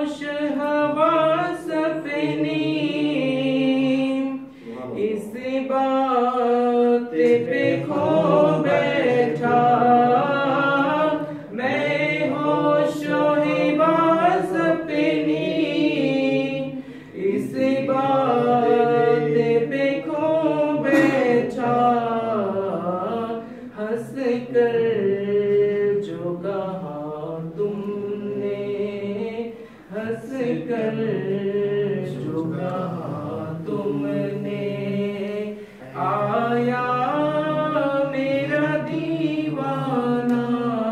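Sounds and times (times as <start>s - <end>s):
man singing unaccompanied: 0.0s - 40.9s.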